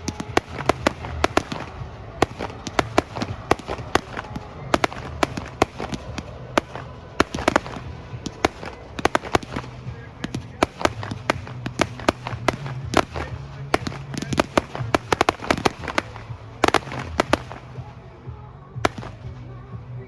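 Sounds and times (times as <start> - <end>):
fireworks bangs and pops: 0.0 - 18.2, 18.8 - 19.4.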